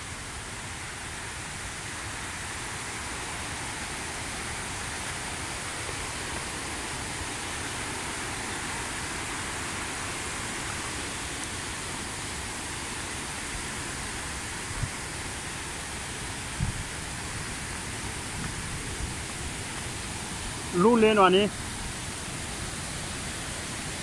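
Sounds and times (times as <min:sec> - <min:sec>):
rushing white water: 0:00.0 - 0:24.0.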